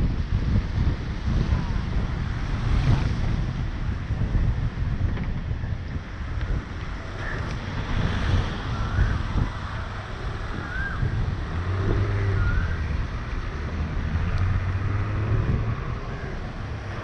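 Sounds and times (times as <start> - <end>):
low engine hum: 0.0 - 17.0
tyres on wet road: 0.0 - 17.0
wind rushing over microphone: 0.0 - 17.0.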